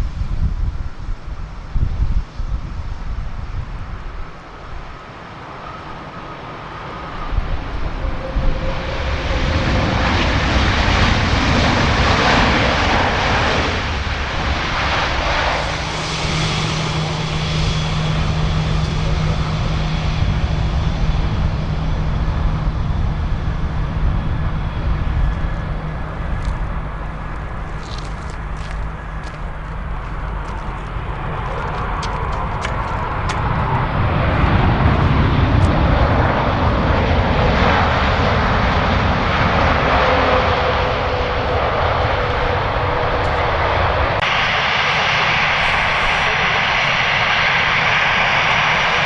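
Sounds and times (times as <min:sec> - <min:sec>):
wind on microphone: 0:00.0 - 0:49.0
jet engines whining: 0:00.8 - 0:49.0.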